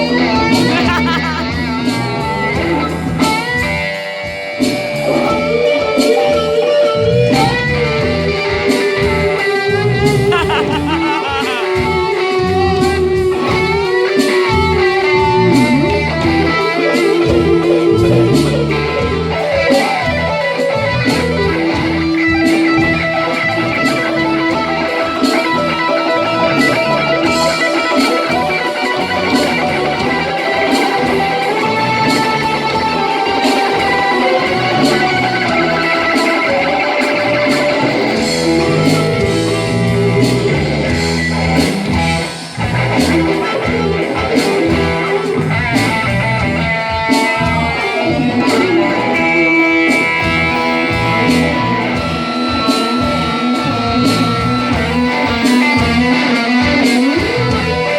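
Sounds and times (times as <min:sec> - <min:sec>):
electric guitar bending lead notes: 0:00.0 - 0:57.9
live rock band: 0:00.0 - 0:57.9.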